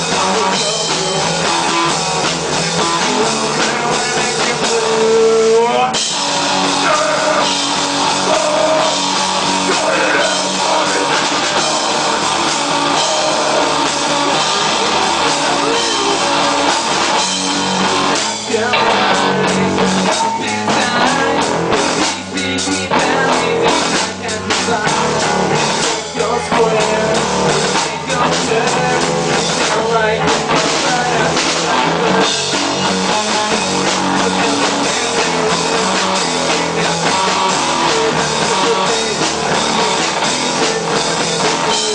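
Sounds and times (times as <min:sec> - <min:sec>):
rock song with singing: 0:00.0 - 0:41.9.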